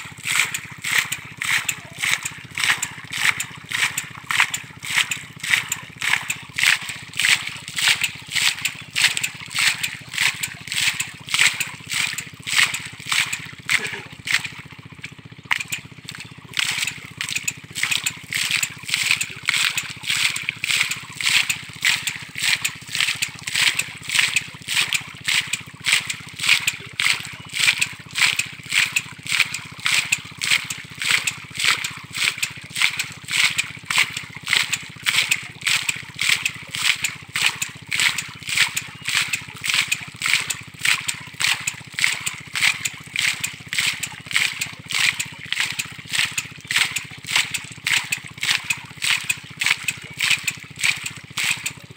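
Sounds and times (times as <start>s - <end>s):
rattling splash of mud and water: 0.0s - 51.9s.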